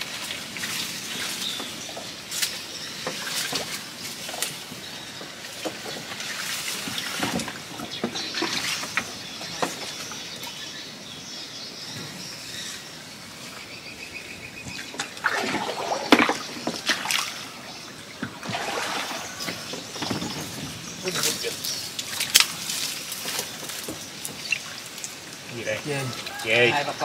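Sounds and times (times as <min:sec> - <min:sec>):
water splashing and dripping: 0:00.0 - 0:10.6, 0:14.7 - 0:26.5.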